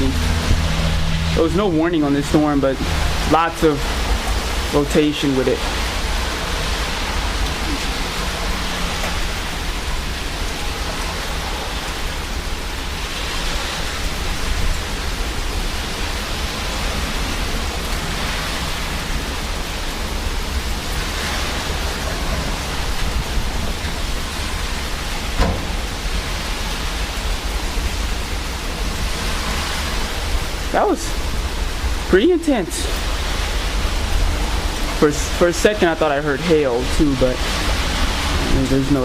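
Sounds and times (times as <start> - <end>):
wind buffeting microphone: 0.0 - 32.1
rain rushing: 0.0 - 39.0.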